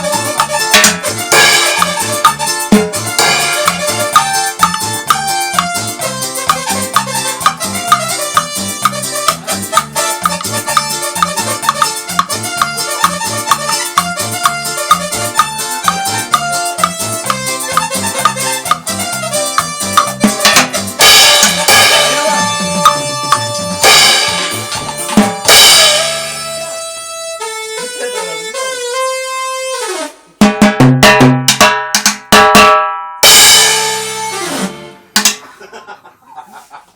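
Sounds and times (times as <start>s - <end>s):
cumbia music: 0.0s - 35.8s.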